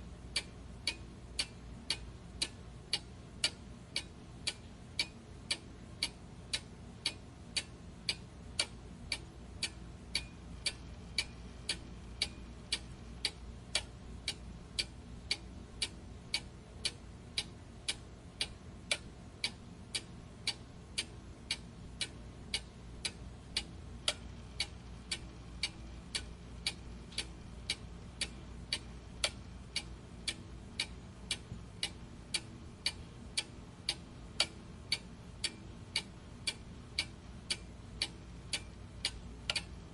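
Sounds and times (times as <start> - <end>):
faint low hum: 0.0 - 39.9
clock ticking: 0.2 - 39.9.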